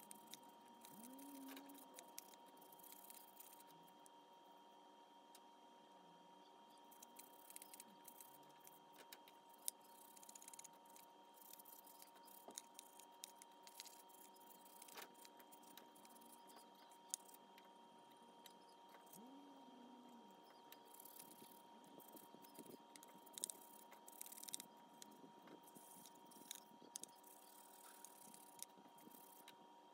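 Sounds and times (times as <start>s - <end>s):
faint steady whine: 0.0s - 29.9s.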